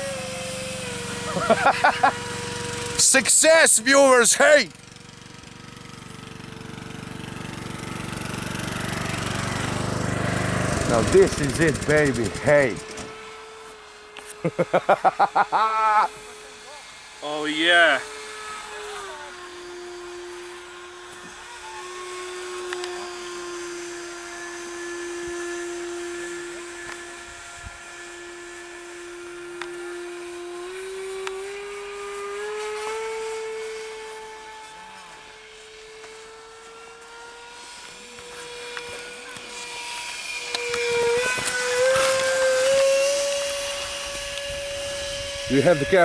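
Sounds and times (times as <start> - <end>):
small model engine buzzing: 0.0 - 46.0.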